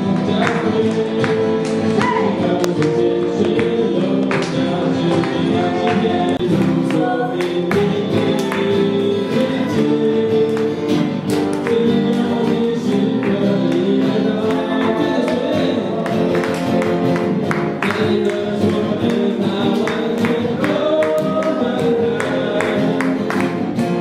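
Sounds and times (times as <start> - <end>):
acoustic guitar: 0.0 - 24.0
keyboard accompaniment: 0.0 - 24.0
man singing: 0.0 - 24.0.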